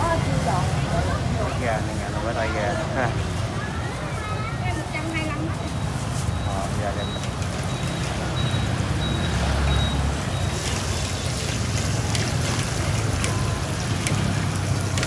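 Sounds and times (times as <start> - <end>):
motorbike traffic rumble: 0.0 - 15.0
plastic bags rustling: 0.0 - 15.0.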